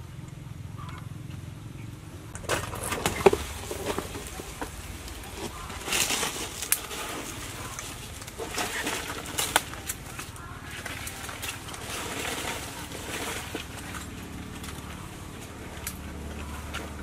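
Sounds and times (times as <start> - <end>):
branches cracking: 2.3 - 17.0
leaves and branches rustling: 2.3 - 17.0.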